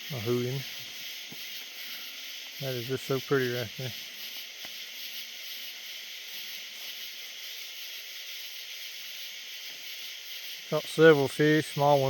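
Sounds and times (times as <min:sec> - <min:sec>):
night insects buzzing and trilling: 0:00.0 - 0:12.0.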